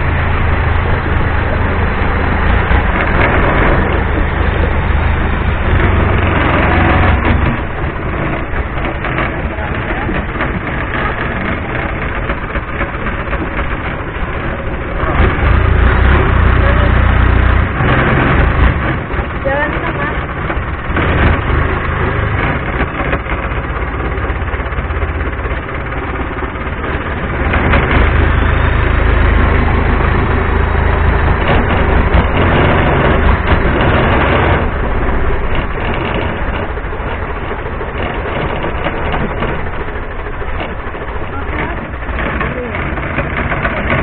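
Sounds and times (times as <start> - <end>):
motorboat engine running: 0.0 - 44.0
water rushing along hull: 0.0 - 44.0.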